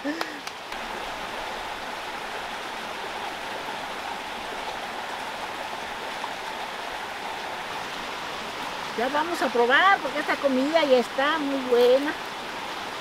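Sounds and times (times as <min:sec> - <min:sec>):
water flowing from spring: 0:00.0 - 0:13.0.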